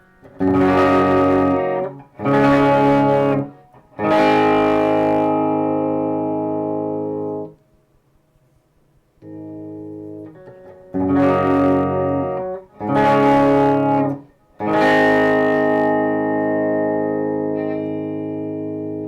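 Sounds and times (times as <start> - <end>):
electric guitar chords: 0.0 - 7.6, 9.2 - 19.0.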